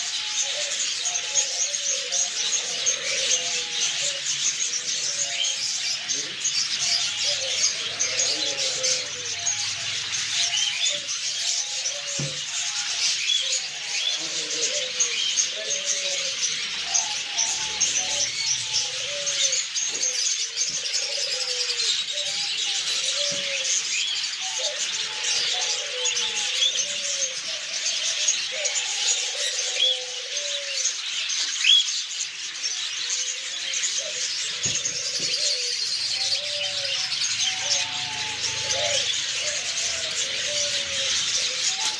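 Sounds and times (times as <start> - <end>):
pigeons cooing: 0.0 - 41.9
small birds chirping: 0.0 - 41.9.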